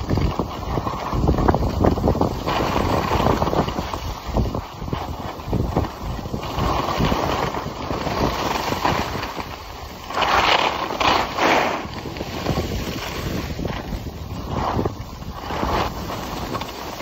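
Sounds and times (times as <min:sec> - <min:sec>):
skis scraping over snow: 0:00.0 - 0:17.0
wind buffeting microphone: 0:00.0 - 0:17.0.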